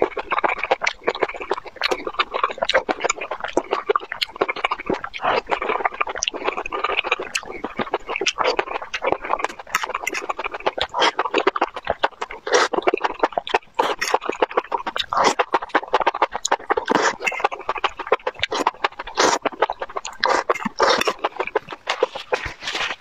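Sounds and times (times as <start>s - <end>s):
chewing and lip smacking: 0.0s - 23.0s
wet slurping: 0.0s - 23.0s.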